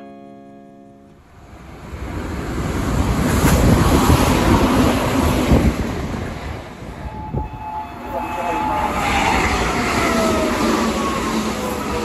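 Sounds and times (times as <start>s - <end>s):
electric train passing: 0.0s - 12.0s
wind buffeting microphone: 1.4s - 12.0s.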